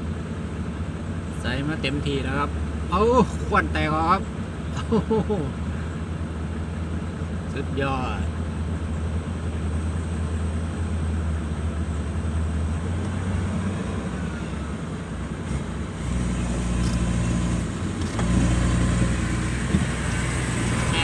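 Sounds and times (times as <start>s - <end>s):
diesel truck engine pulling hard: 0.0s - 21.0s.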